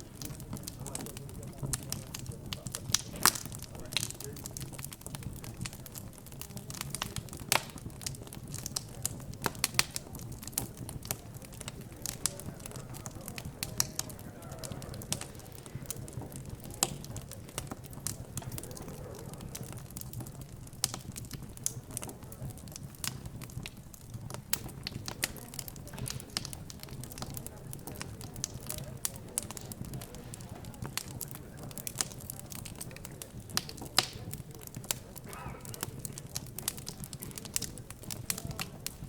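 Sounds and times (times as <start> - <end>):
faint background chatter: 0.0 - 39.0
wood fire crackling and popping: 0.0 - 39.0.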